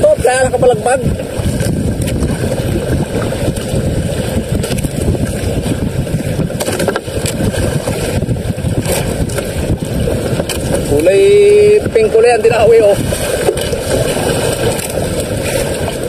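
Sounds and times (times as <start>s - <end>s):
choppy water against hull: 0.0s - 16.0s
wind on microphone: 0.0s - 16.0s.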